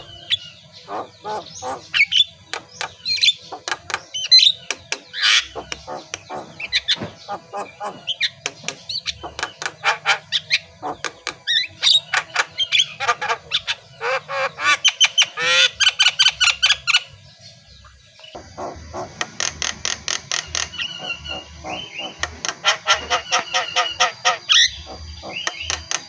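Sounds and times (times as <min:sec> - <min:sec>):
myna singing and chattering: 0:00.0 - 0:15.5, 0:20.3 - 0:26.0.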